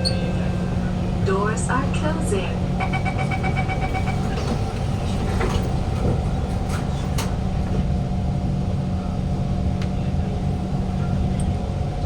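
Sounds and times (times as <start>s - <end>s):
train carriage low hum: 0.0s - 12.0s.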